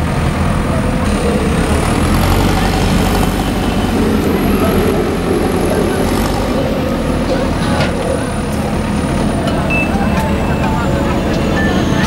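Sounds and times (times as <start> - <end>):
heavy vehicle engines running: 0.0 - 12.0.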